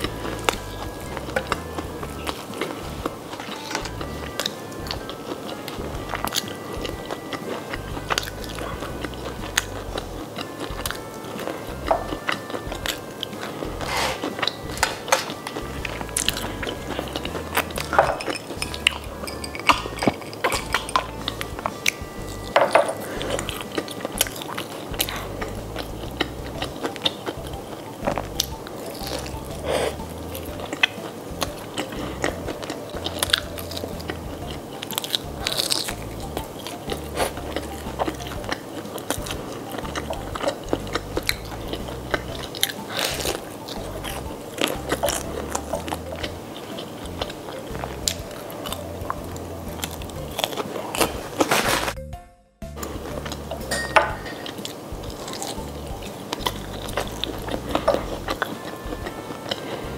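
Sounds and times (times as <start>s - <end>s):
chewing crispy fried chicken: 0.0s - 52.0s, 52.8s - 59.9s
crust crunching: 0.0s - 52.0s.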